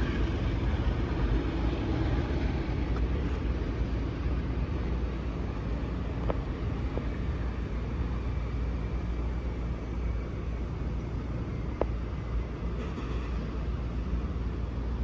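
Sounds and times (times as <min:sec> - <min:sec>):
low rumble of vehicle: 0:00.0 - 0:15.0.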